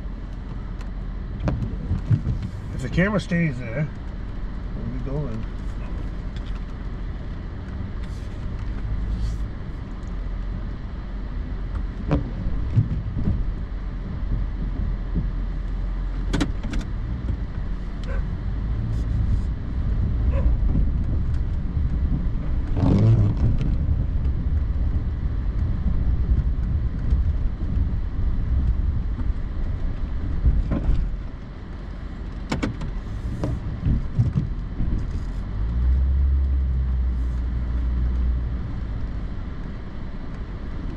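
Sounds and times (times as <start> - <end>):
truck engine rumbling: 0.0 - 40.9.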